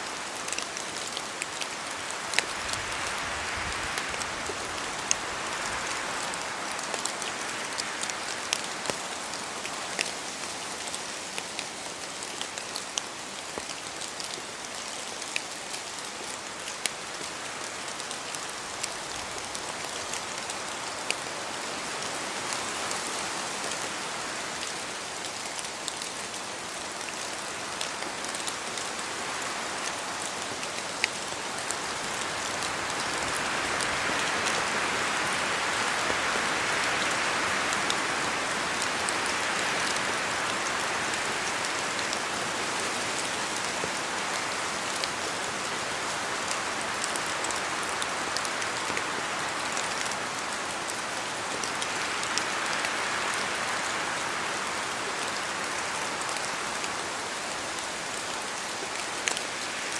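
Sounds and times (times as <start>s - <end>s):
rain in a forest: 0.0s - 59.9s
wind gusting through trees: 0.0s - 59.9s.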